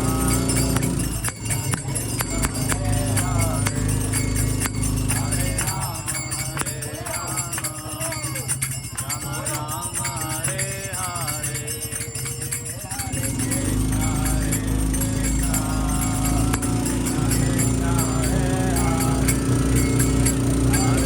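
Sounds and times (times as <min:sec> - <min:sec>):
jingling hand percussion: 0:00.0 - 0:21.0
wavering devotional melody: 0:00.0 - 0:21.0.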